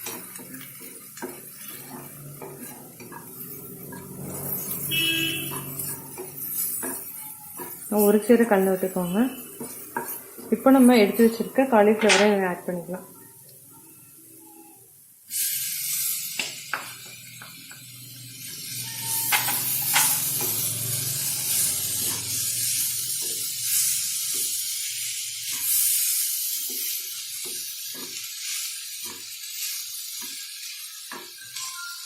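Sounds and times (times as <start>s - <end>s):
vegetables sizzling in frying pan: 0.0s - 32.0s.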